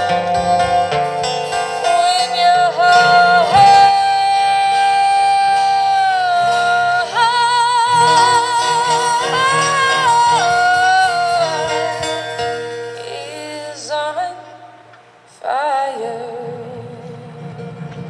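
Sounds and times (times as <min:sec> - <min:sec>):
acoustic guitar: 0:00.0 - 0:18.0
person singing with vibrato: 0:00.0 - 0:18.0.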